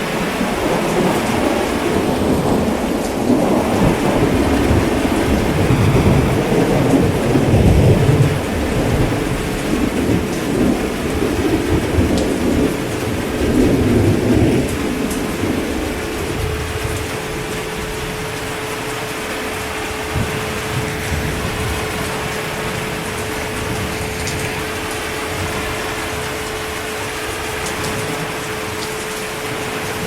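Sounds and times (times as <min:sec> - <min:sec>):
heavy rain falling: 0:00.0 - 0:30.0
low rolling thunder: 0:00.0 - 0:30.0.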